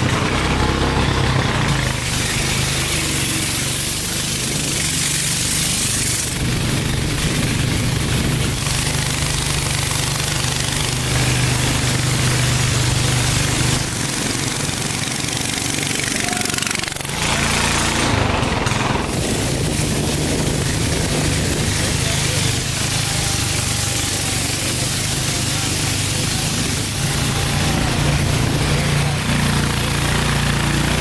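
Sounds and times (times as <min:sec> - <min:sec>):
motorboat engine running: 0:00.0 - 0:31.0.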